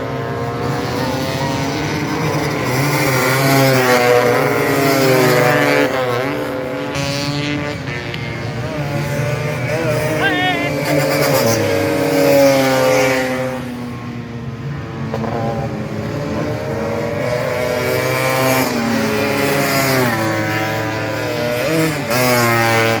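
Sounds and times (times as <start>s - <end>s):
scooters revving and passing: 0.0s - 23.0s.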